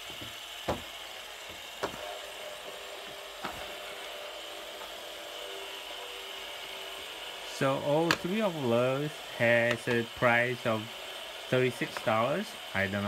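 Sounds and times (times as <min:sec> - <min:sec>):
spinning bearings humming: 0:00.0 - 0:13.0.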